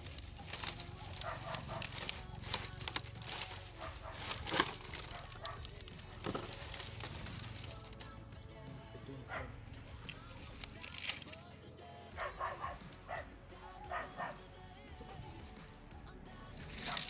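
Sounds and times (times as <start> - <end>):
clicks and crackles: 0.0 - 8.3, 9.2 - 13.2, 15.0 - 17.0.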